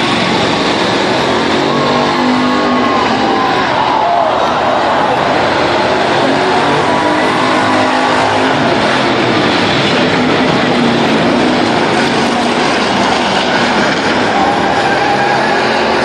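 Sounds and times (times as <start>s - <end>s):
race car engines running: 0.0s - 16.0s.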